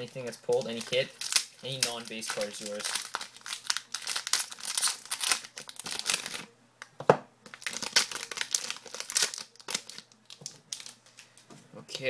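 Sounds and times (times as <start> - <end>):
plastic wrapper crinkling and tearing: 0.0 - 6.5, 7.4 - 11.3.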